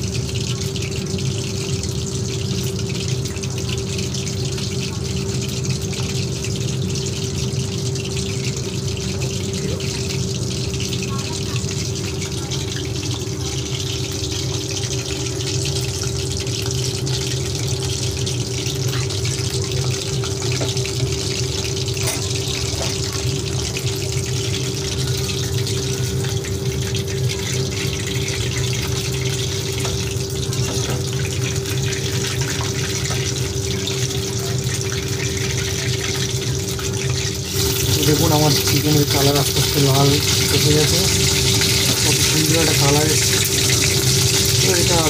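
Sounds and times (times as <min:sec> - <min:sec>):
food deep-frying in hot oil: 0:00.0 - 0:45.0
steady hum: 0:00.0 - 0:45.0.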